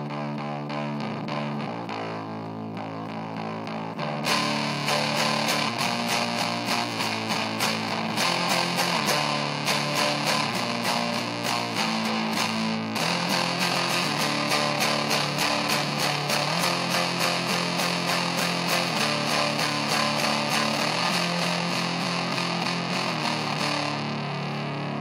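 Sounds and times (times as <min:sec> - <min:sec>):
rock music with distorted guitar: 0:00.0 - 0:25.0.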